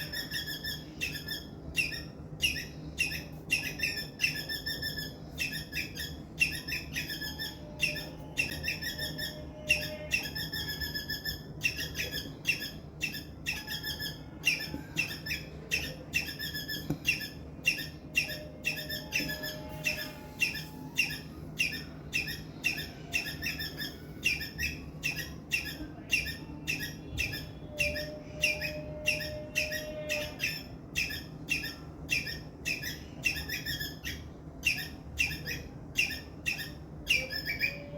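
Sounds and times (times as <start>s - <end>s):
squirrel chirping: 0.0s - 37.9s.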